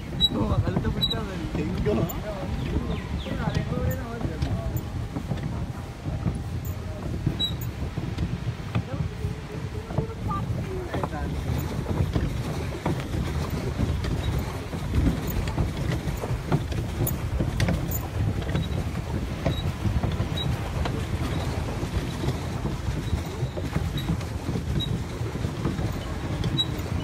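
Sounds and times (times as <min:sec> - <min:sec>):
boat engine low rumble: 0:00.0 - 0:27.0
wind buffeting microphone: 0:00.0 - 0:27.0.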